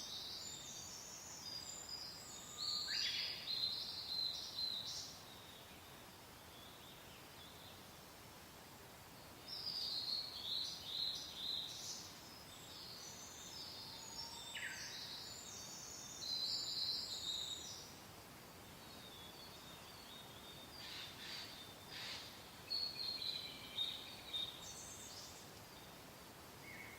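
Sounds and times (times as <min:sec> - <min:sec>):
soft wind hiss: 0:00.0 - 0:26.9
songbirds chirping: 0:00.0 - 0:26.9.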